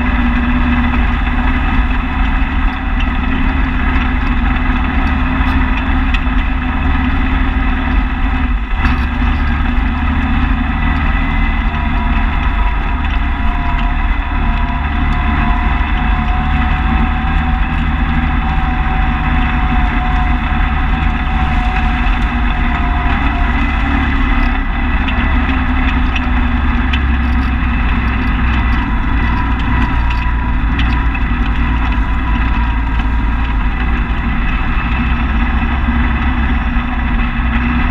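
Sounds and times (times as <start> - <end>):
off-road vehicle engine running: 0.0 - 37.9.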